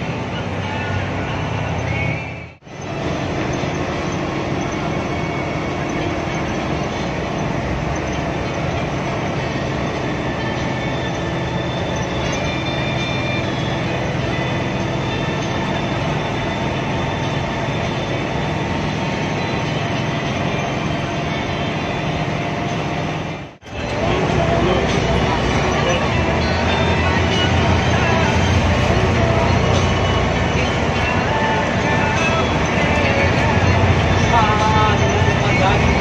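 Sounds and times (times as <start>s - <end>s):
bus engine drone: 0.0s - 36.0s
wet tyres on road: 0.0s - 36.0s.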